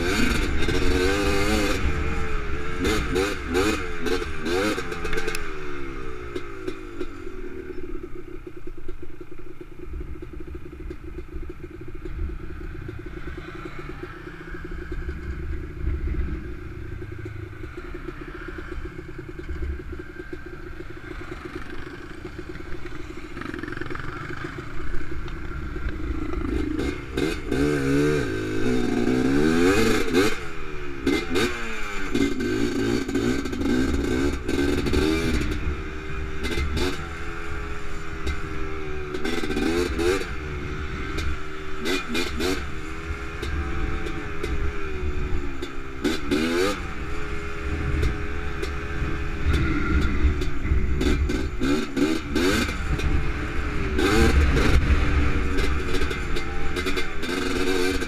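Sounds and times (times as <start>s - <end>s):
quad engine revving: 0.0s - 7.6s, 12.0s - 58.0s.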